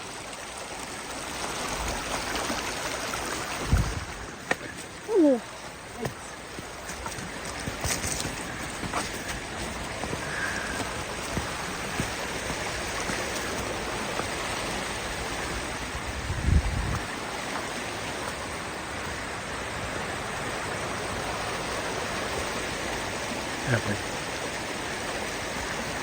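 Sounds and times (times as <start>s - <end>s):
rushing creek water and falls: 0.0s - 26.0s.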